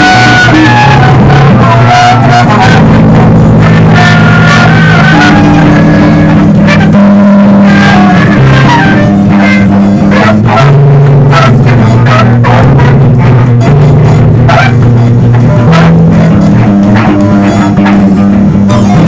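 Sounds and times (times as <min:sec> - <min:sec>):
band music: 0:00.0 - 0:19.0
plucked guitar: 0:00.0 - 0:19.0.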